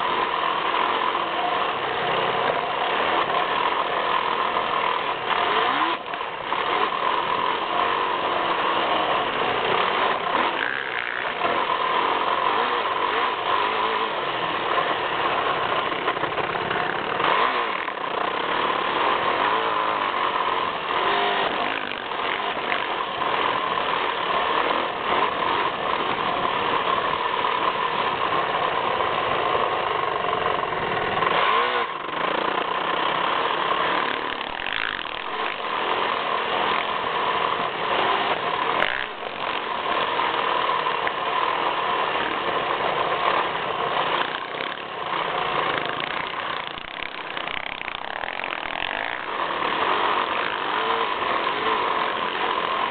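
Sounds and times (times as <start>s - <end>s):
motocross engine running hard: 0.0s - 52.9s.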